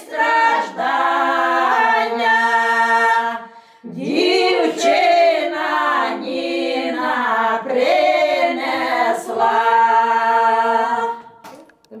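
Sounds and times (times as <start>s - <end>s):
women singing a cappella: 0.0s - 11.6s.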